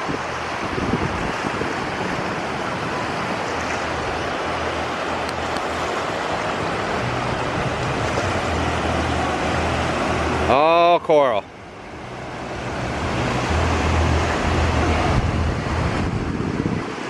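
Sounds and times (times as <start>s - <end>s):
wind on microphone: 0.0s - 10.5s, 11.6s - 17.0s
surf along shoreline: 0.0s - 17.0s.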